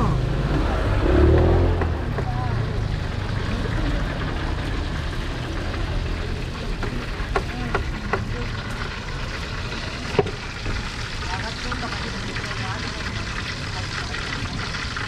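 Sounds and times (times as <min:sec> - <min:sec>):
low market rumble: 0:00.0 - 0:15.0.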